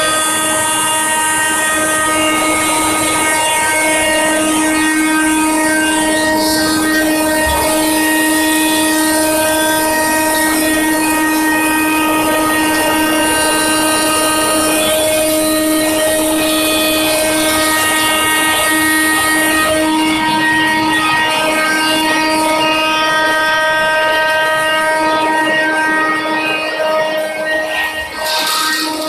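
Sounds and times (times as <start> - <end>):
vacuum cleaner motor whine: 0.0 - 29.0.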